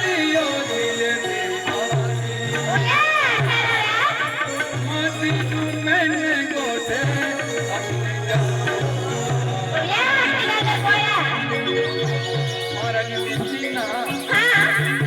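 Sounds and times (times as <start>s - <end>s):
wavering melodic lead: 0.0s - 15.0s.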